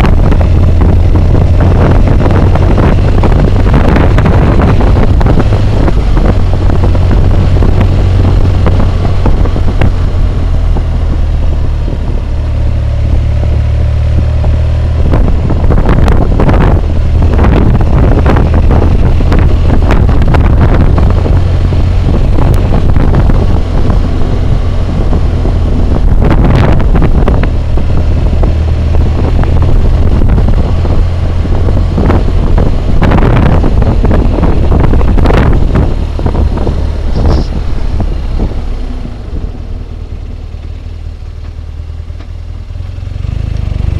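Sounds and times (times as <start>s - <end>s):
motorcycle engine drone: 0.0s - 43.9s
wind roar on microphone: 0.0s - 43.9s.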